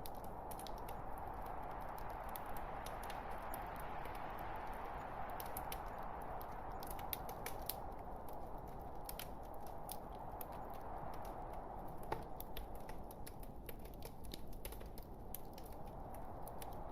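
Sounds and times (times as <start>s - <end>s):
log fire crackling: 0.0s - 16.9s.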